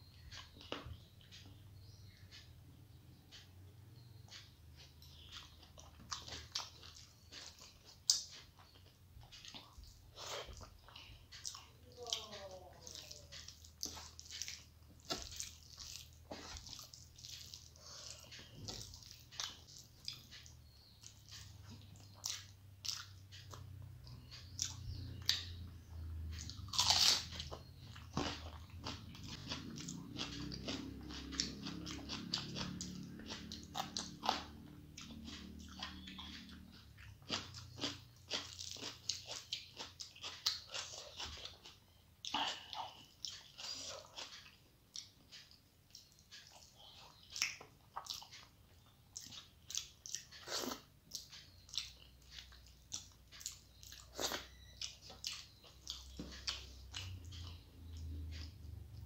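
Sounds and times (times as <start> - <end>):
person chewing and crunching: 4.0 - 59.0.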